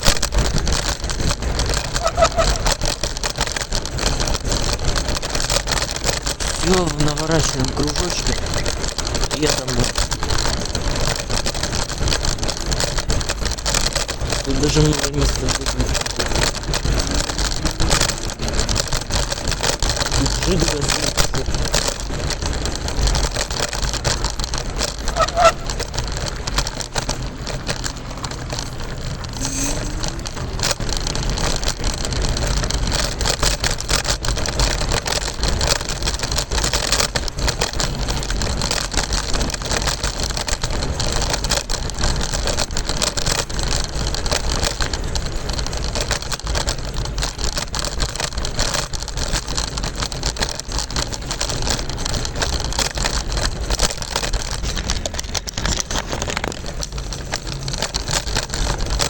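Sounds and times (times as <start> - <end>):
scooter wheels rolling on pavement: 0.0 - 59.0
small rattles and knocks: 0.0 - 59.0.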